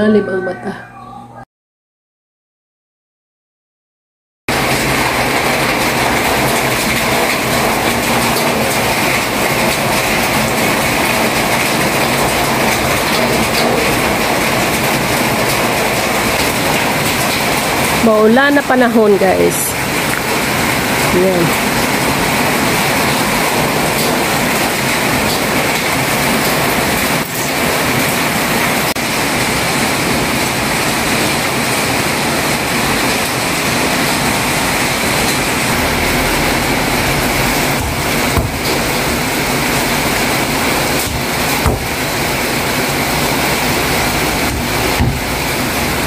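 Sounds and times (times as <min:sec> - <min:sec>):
steady rain falling: 0:04.5 - 0:46.0.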